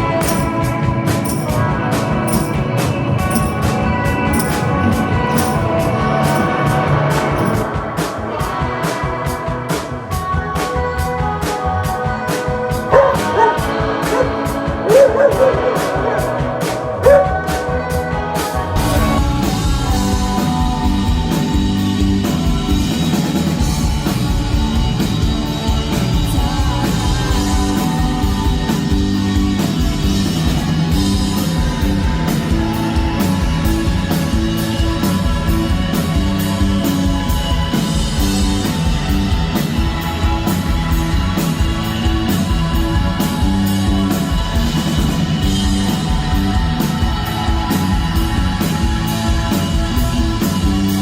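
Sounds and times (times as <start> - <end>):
guitars: 0.0 - 51.0.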